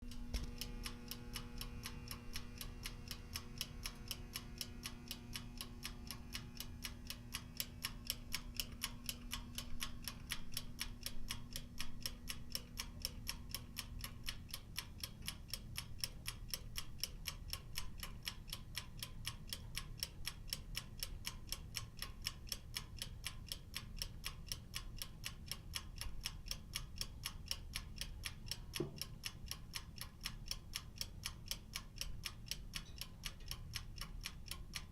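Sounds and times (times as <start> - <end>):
low steady hum: 0.0 - 34.9
oven timer ticking: 0.0 - 34.9.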